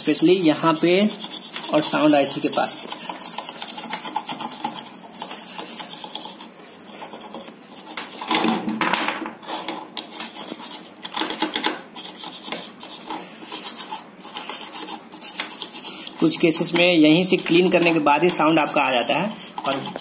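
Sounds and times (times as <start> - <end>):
brush scrubbing circuit board: 0.0 - 8.3, 9.5 - 20.0.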